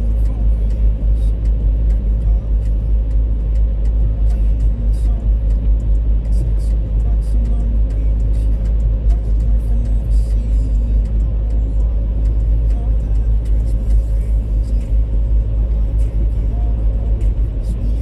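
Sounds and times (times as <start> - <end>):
car interior engine and road rumble: 0.0 - 18.0.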